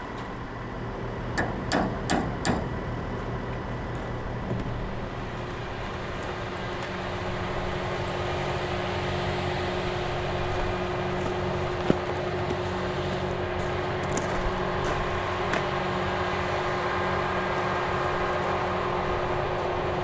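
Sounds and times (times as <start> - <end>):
farm machinery engine running: 0.0 - 20.0.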